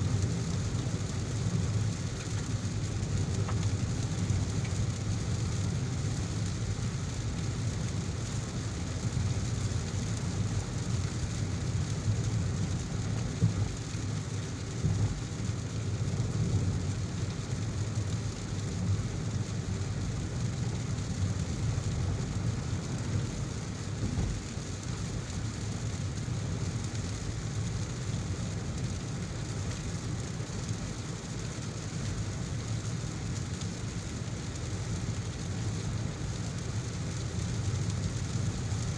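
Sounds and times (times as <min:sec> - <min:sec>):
car driving on wet road: 0:00.0 - 0:38.9
heavy rain: 0:00.0 - 0:38.9.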